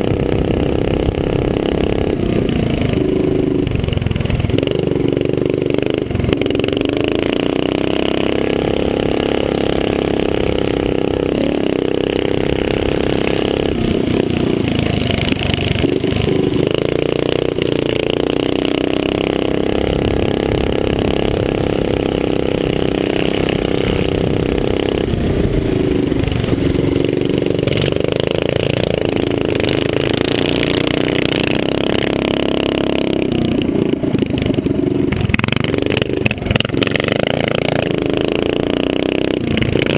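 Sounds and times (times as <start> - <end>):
mini-bike engine revving: 0.0 - 39.9.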